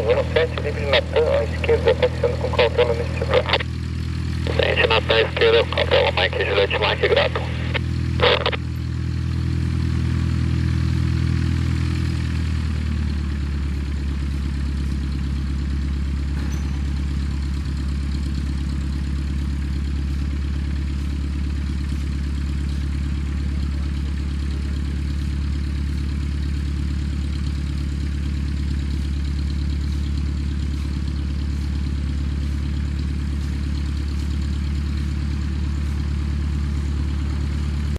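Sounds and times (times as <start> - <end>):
engine idling: 0.0 - 37.9.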